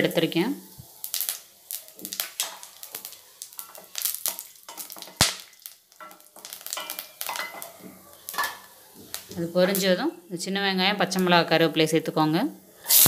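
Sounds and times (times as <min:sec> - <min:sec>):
spices sizzling and popping in oil: 0:00.0 - 0:13.0.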